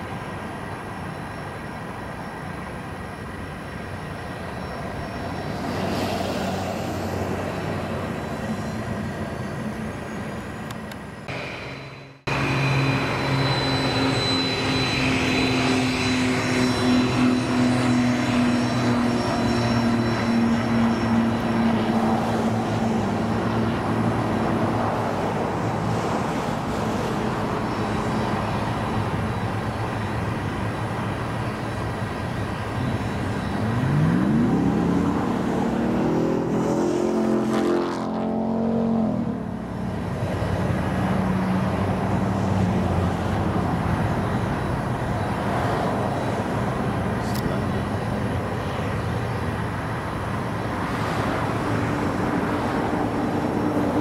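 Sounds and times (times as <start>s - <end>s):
aircraft engine hum: 0.0s - 54.0s
rising engine whine: 0.0s - 54.0s.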